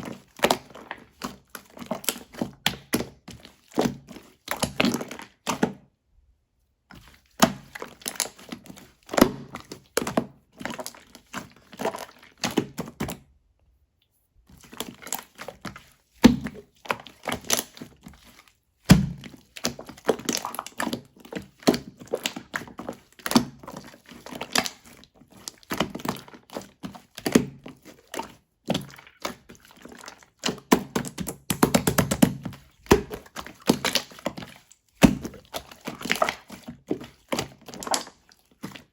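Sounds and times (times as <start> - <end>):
slime popping and squelching: 0.1 - 5.8, 7.3 - 13.2, 14.5 - 38.9.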